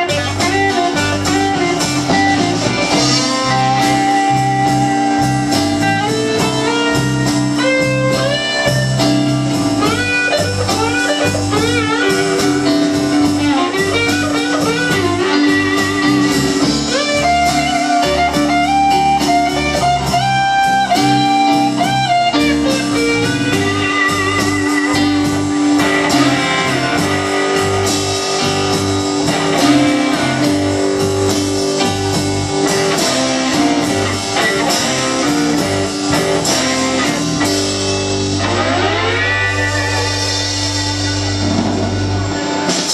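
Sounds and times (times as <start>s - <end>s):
bass: 0.0s - 42.9s
drums: 0.0s - 42.9s
keyboards: 0.0s - 42.9s
lead guitar with bent notes: 0.0s - 42.9s.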